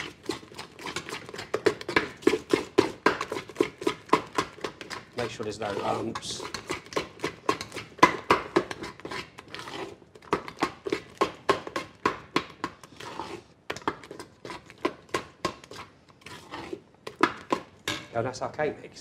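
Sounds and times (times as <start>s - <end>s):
spoon scraping metal mixing bowl: 0.0s - 18.1s.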